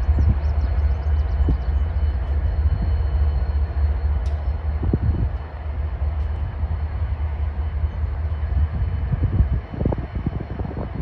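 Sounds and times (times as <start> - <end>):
diesel locomotive engine running: 0.0 - 11.0.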